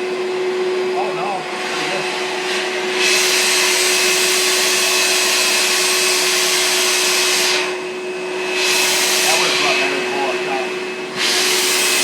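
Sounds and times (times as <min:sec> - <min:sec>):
vacuum motor whine: 0:00.0 - 0:12.0.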